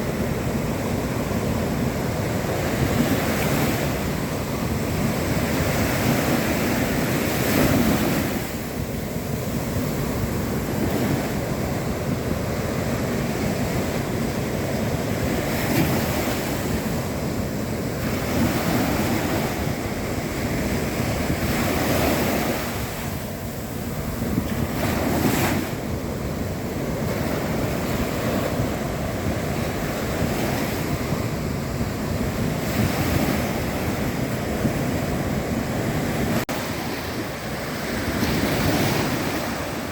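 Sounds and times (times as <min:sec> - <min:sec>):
sea waves breaking on shore: 0:00.0 - 0:39.9
wind on microphone: 0:00.0 - 0:39.9.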